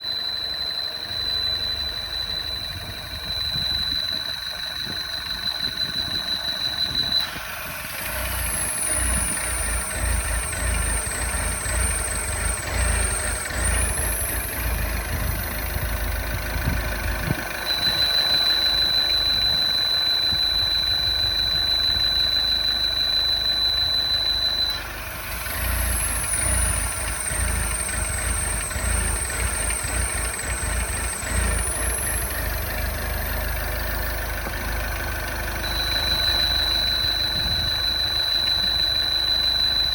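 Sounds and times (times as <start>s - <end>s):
car engine running: 0.0s - 39.9s
faint high whistle: 0.0s - 39.9s
steady high-pitched tone: 0.0s - 39.9s.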